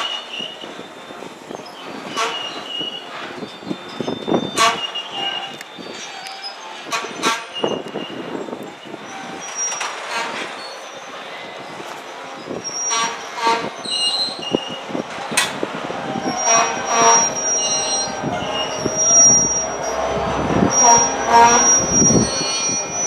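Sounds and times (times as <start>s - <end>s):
freight train rolling on rails: 0.0s - 23.0s
train cars clanking: 0.0s - 23.0s
wheels squealing: 0.0s - 23.0s.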